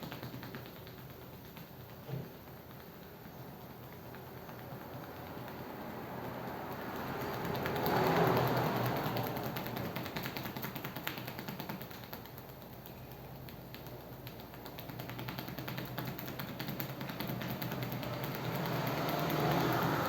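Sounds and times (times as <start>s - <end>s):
fingertips tapping on head: 0.0s - 20.0s.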